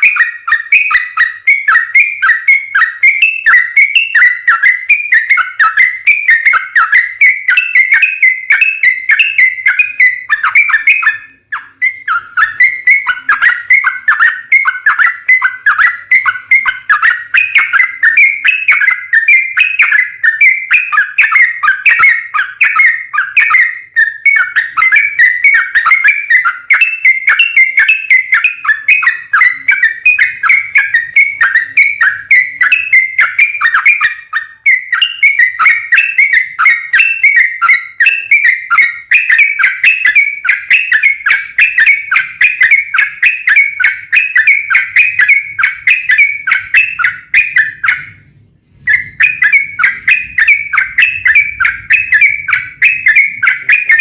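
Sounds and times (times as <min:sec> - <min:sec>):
bird singing chattering notes: 0:00.0 - 0:54.0.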